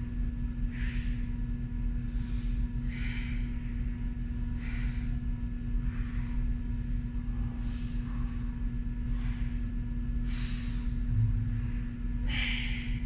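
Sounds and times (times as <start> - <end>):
steady low hum: 0.0 - 13.0
woman breathing hard: 0.6 - 13.0.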